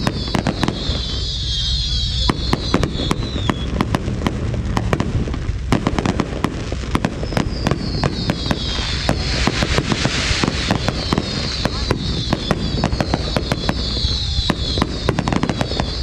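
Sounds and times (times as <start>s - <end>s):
fireworks bangs and pops: 0.0s - 16.0s
fireworks high hiss: 0.0s - 16.0s.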